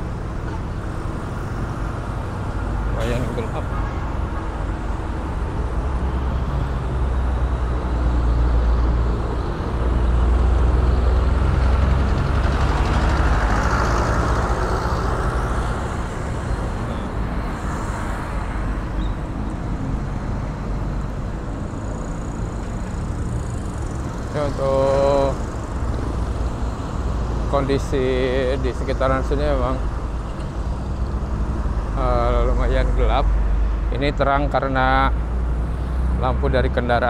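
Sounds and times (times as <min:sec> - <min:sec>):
road traffic passing: 0:00.0 - 0:37.0.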